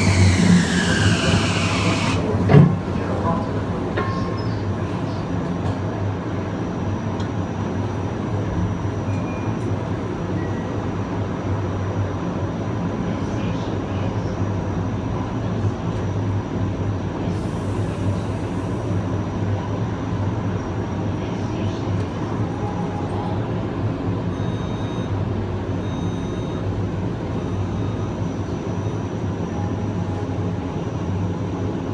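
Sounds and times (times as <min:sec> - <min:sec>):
train running rumble: 0:00.0 - 0:31.9.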